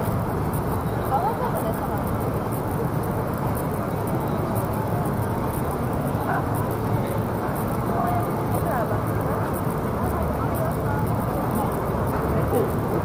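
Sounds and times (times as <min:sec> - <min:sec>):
distant traffic rumble: 0:00.0 - 0:13.0
faint voices: 0:00.0 - 0:13.0.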